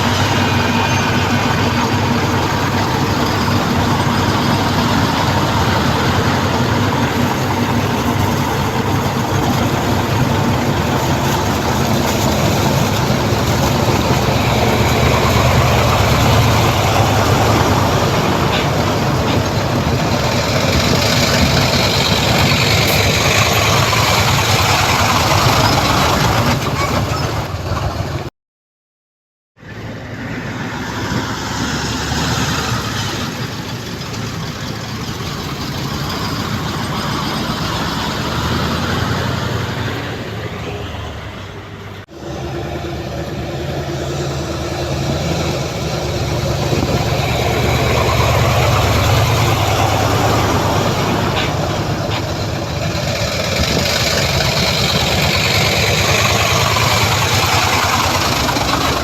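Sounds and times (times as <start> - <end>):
heavy diesel machinery rumbling: 0.0 - 28.3, 29.6 - 59.0.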